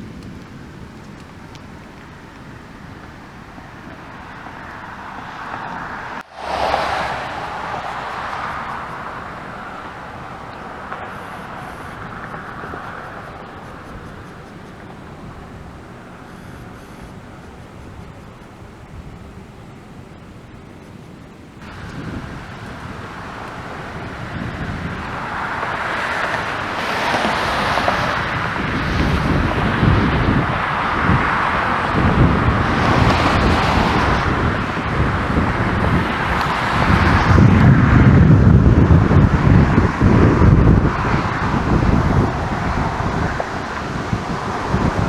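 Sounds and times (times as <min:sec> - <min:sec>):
wind gusting on microphone: 0:00.0 - 0:45.0.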